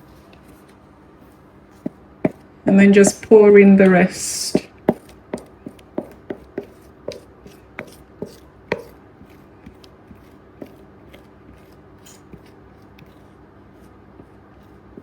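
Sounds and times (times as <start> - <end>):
utensil tapping and scraping a bowl: 1.8 - 15.0.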